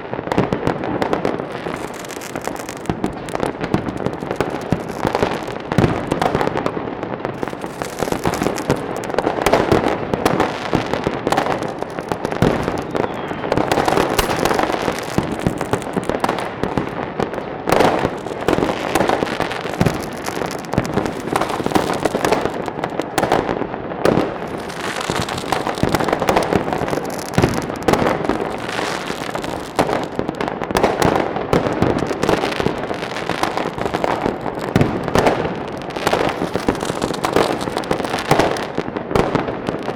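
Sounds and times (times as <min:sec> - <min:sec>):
fireworks cracking and banging: 0:00.2 - 0:39.9.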